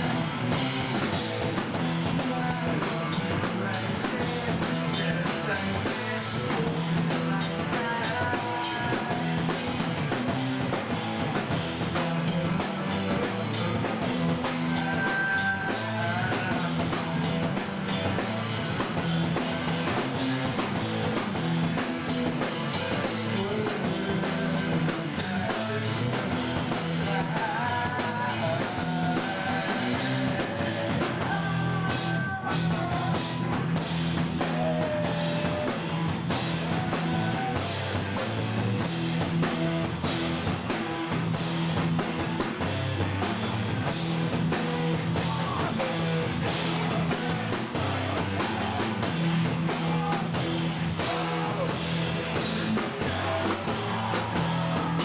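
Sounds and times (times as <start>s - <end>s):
driving drum hits: 0.0s - 55.0s
rock band playing live: 0.0s - 55.0s.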